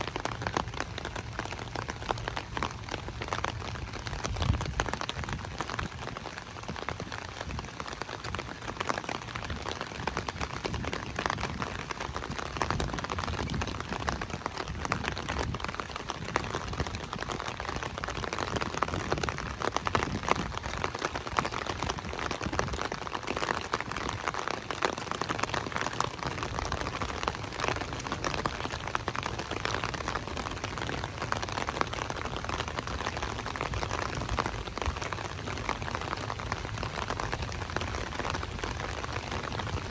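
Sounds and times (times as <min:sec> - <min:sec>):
light rain patter: 0:00.0 - 0:39.9.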